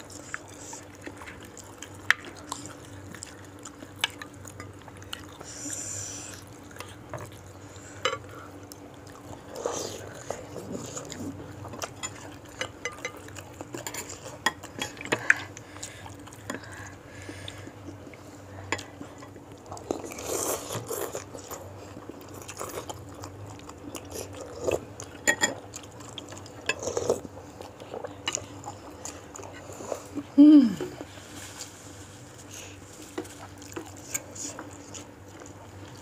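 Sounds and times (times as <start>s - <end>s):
chewing: 0.0s - 36.0s.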